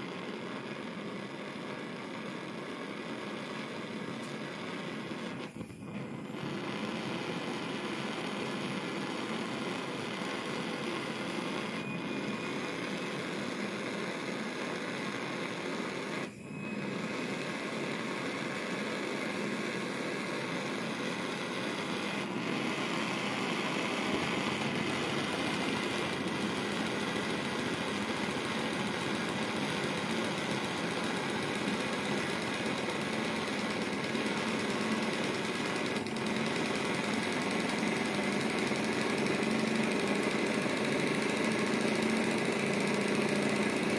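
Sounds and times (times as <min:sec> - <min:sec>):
alcohol burner hissing: 0:00.0 - 0:43.9
model engine running: 0:00.0 - 0:43.9.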